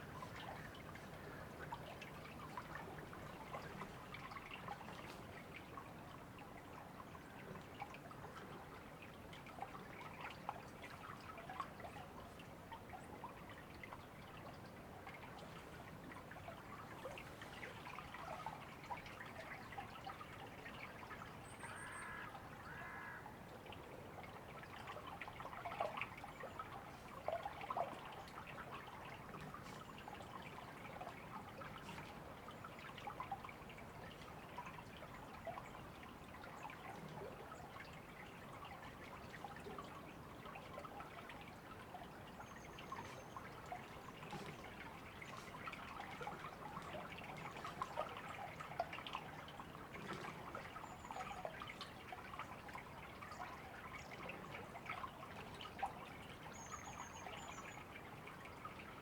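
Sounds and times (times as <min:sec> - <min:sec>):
faint river trickling: 0:00.0 - 0:59.0.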